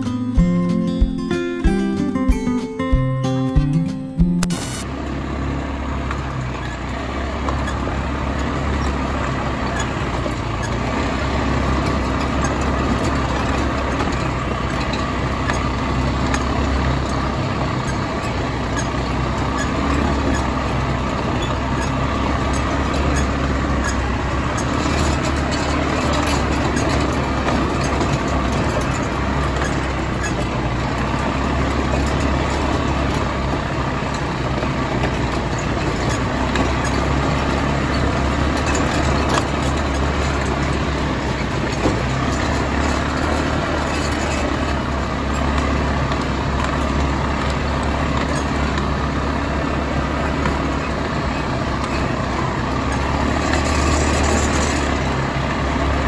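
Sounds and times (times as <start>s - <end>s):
driving noise: 0.0s - 56.0s
quad bike engines running: 4.8s - 56.0s.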